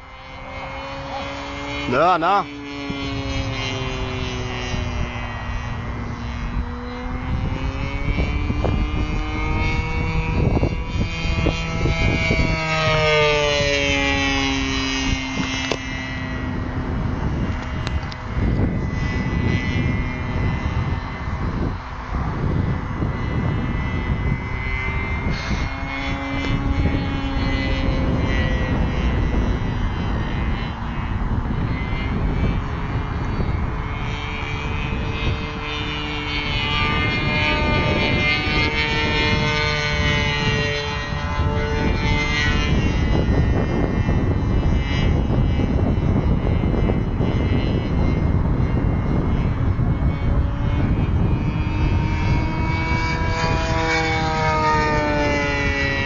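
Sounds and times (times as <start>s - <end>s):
model plane engine in flight: 0.0s - 56.0s.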